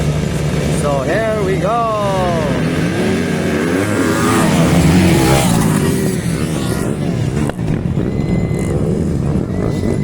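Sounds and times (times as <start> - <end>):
dirt bikes revving and accelerating: 0.0 - 10.0.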